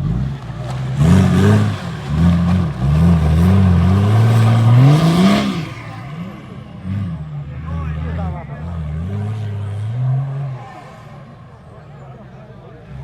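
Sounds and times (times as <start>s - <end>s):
car engine revving hard: 0.0s - 11.6s.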